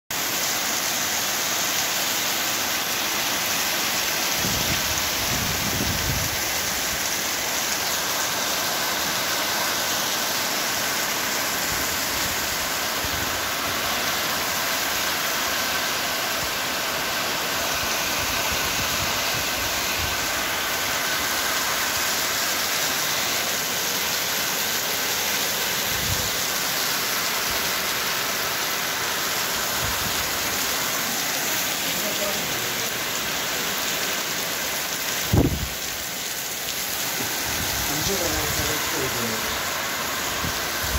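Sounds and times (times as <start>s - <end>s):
steady rain hiss: 0.1s - 40.9s.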